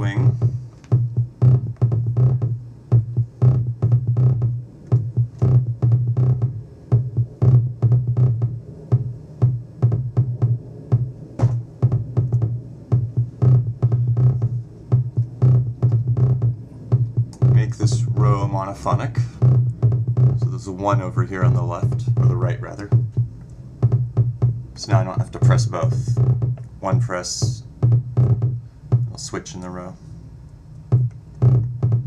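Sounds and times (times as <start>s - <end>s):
electronic drum hits: 0.0s - 29.8s, 30.9s - 32.0s
low pulsing tone: 0.0s - 32.0s.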